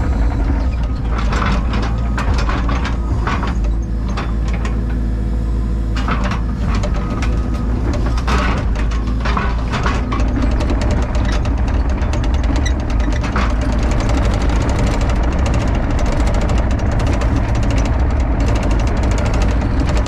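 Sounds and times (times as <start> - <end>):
metallic clanking and rattling: 0.0 - 5.0, 6.0 - 20.0
excavator diesel engine running: 0.0 - 20.0.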